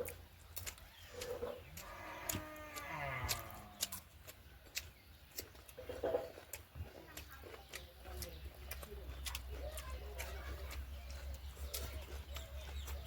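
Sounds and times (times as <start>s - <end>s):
wet chewing clicks and smacks: 0.0s - 13.0s.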